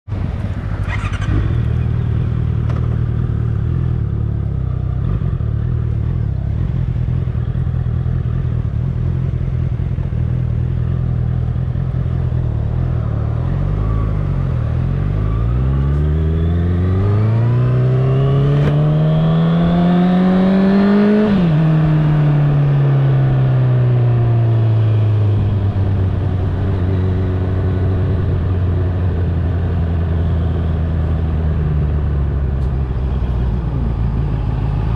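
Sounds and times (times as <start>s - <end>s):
motorcycle engine accelerating: 0.2s - 34.9s.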